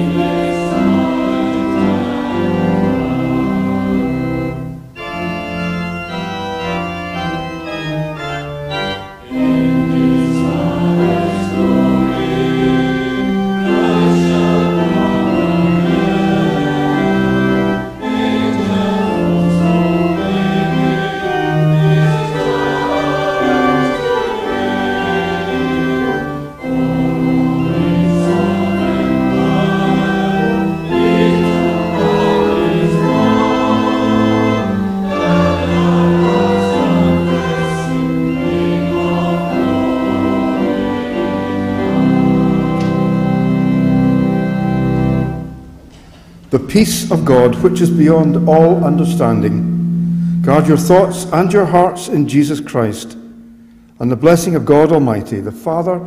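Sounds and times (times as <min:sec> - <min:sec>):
choir singing a hymn: 0:00.0 - 0:45.7, 0:46.5 - 0:56.0
church organ: 0:00.0 - 0:56.0.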